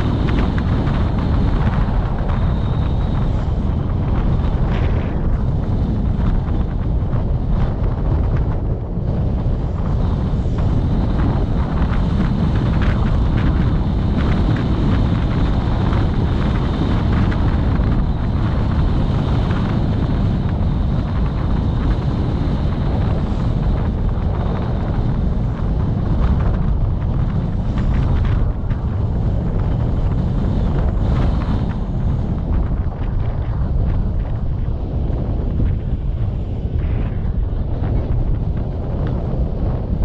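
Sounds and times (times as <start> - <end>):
vehicle running noise: 0.0 - 40.0
wind buffeting microphone: 0.0 - 40.0.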